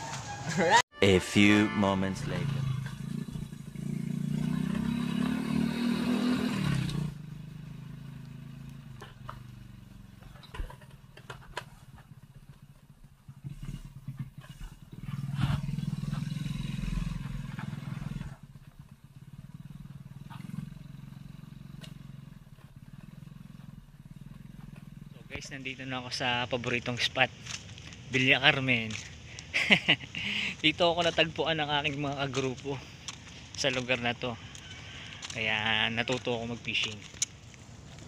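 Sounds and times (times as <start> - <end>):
motor scooter engine: 2.0 - 38.0.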